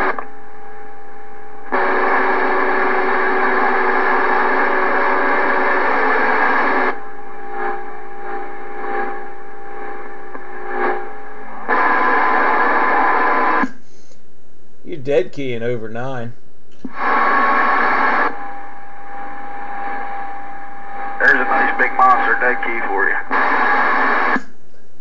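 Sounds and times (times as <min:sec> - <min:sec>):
radio static hiss: 0:00.0 - 0:14.1, 0:14.9 - 0:24.6.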